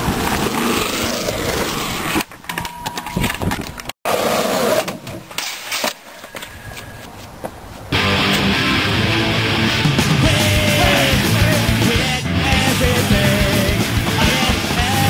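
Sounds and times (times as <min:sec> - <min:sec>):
skateboard wheels rolling on concrete: 0:00.0 - 0:02.5, 0:03.4 - 0:15.0.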